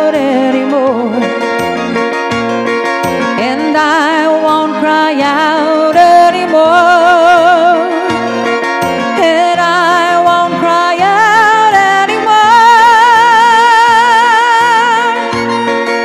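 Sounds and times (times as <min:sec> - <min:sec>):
woman singing with vibrato: 0:00.0 - 0:01.5, 0:03.3 - 0:15.5
backing track music: 0:00.0 - 0:16.0.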